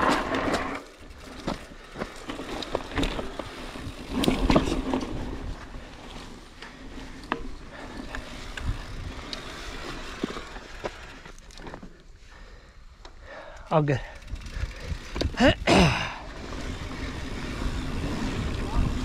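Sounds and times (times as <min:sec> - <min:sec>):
bike clicking and rattling: 0:00.0 - 0:19.0
bike tyres on dirt: 0:00.0 - 0:19.0.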